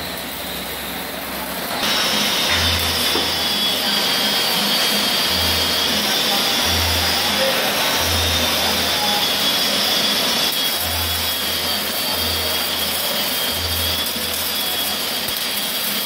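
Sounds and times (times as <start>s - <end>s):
welding arc crackling and hissing: 0.0s - 16.0s.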